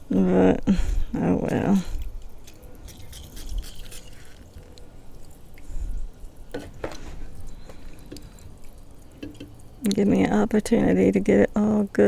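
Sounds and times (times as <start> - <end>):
liquid dripping and spattering: 0.6 - 11.6.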